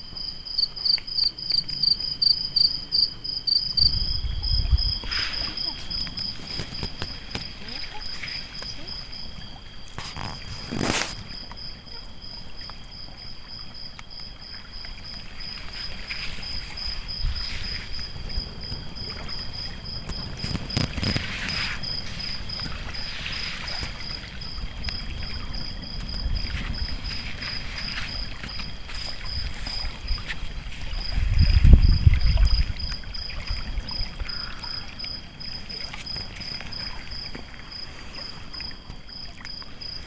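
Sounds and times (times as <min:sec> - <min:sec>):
crickets chirping: 0:00.0 - 0:40.0
water lapping at shore: 0:02.8 - 0:40.0.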